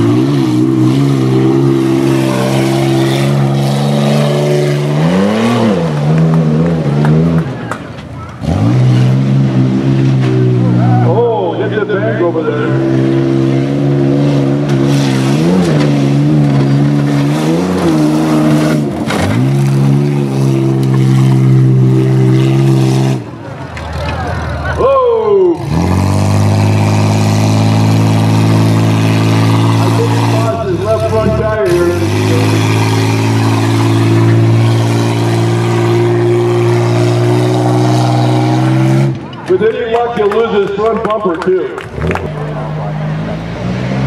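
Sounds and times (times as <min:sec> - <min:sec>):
truck engines revving hard: 0:00.0 - 0:44.0.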